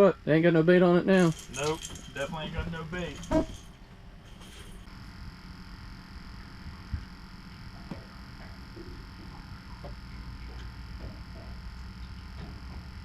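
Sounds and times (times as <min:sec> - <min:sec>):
boat motor humming: 0:00.0 - 0:13.0
faint high whine: 0:00.0 - 0:13.0.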